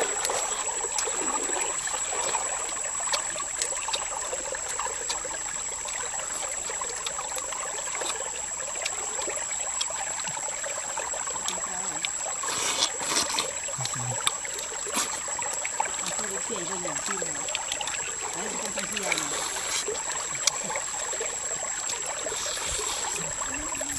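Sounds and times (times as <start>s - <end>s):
stream trickling: 0.0s - 23.9s.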